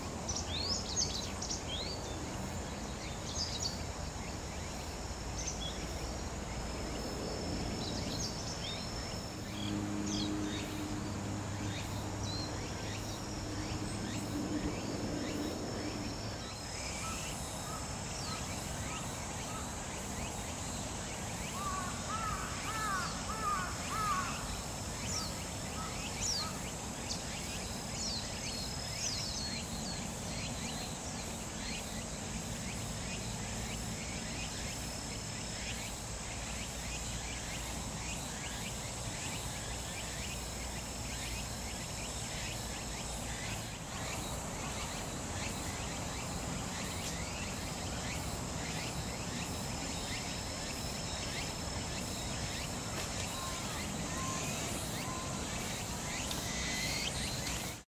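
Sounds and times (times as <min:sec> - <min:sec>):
insect buzz: 0:00.0 - 0:57.8
lower looping bird notes: 0:00.0 - 0:57.8.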